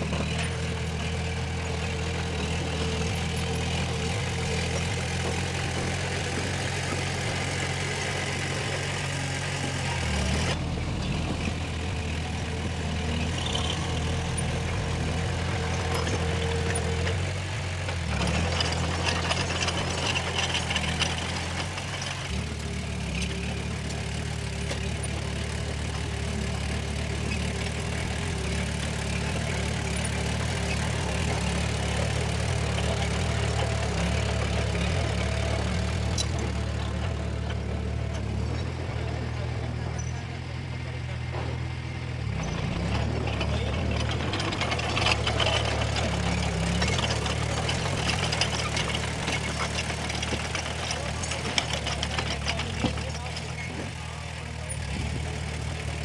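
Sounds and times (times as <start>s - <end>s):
diesel machinery engine running: 0.0s - 56.0s
rattling clatter with knocks: 0.0s - 56.0s.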